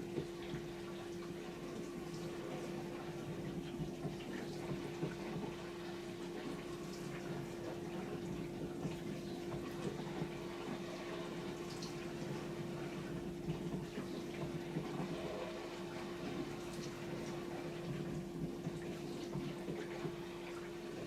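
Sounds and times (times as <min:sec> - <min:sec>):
dishwasher hum: 0:00.0 - 0:21.0.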